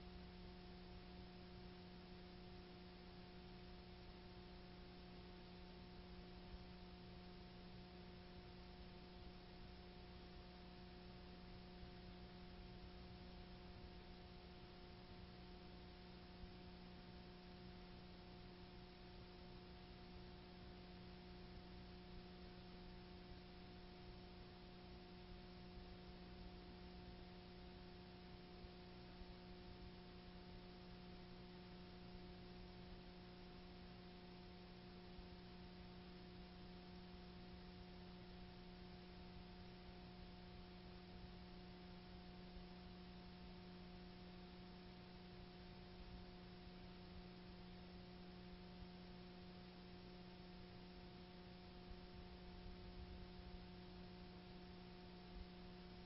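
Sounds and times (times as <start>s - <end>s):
faint electrical hum: 0.0s - 56.0s
soft hiss: 0.0s - 56.0s.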